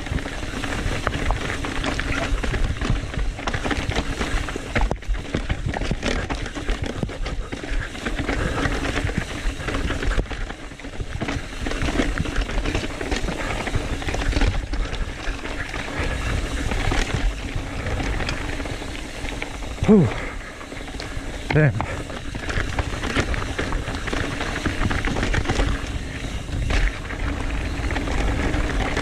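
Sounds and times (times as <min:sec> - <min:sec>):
bike knocking and rattling: 0:00.0 - 0:29.0.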